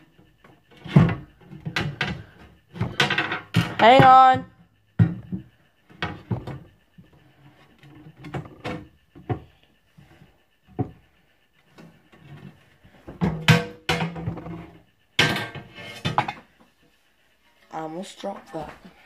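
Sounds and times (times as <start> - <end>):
objects being handled and moved: 0.0 - 19.0.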